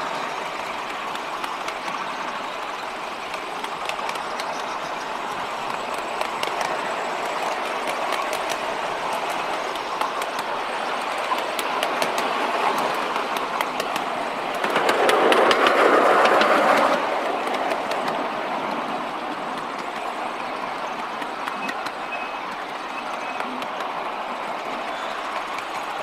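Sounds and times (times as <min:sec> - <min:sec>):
miniature train running noise: 0:00.0 - 0:26.0
wheels clicking over rail: 0:00.0 - 0:26.0.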